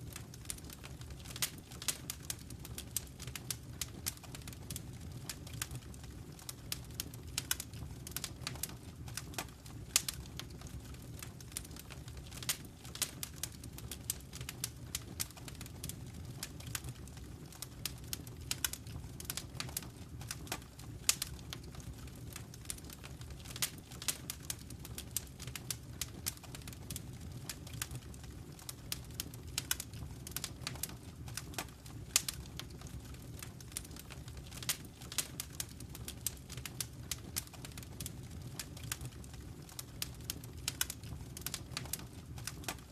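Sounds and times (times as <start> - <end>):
fire burning rumble: 0.0 - 42.9
fire crackling pops and snaps: 0.0 - 42.9.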